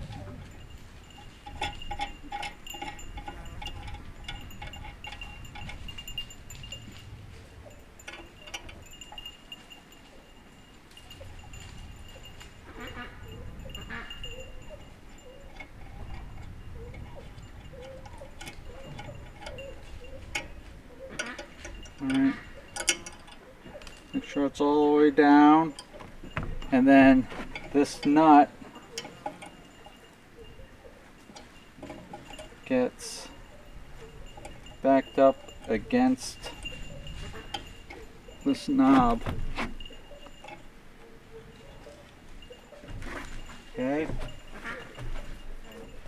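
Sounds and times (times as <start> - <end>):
small metal parts clinking: 0.0 - 46.0.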